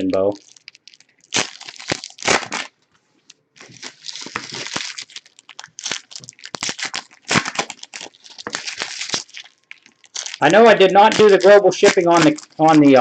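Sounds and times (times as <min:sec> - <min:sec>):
card pack wrappers crinkling: 0:00.0 - 0:02.8, 0:03.6 - 0:13.0.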